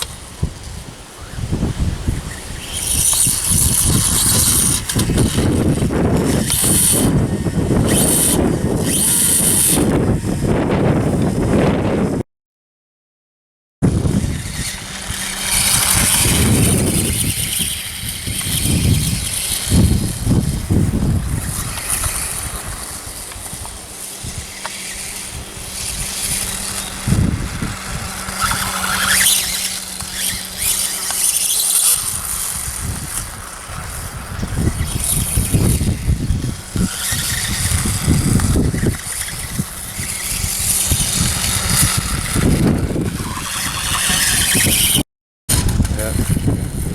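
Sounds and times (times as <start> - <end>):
electric motor whine: 0.0 - 12.2, 13.8 - 46.9.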